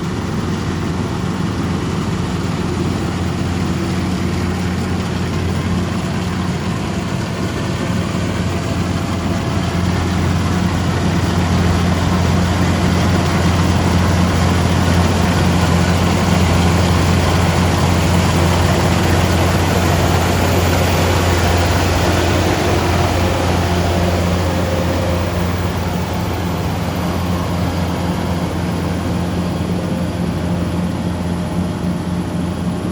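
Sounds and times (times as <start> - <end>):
broad rushing machine noise: 0.0 - 32.9
combine harvester diesel drone: 0.0 - 32.9.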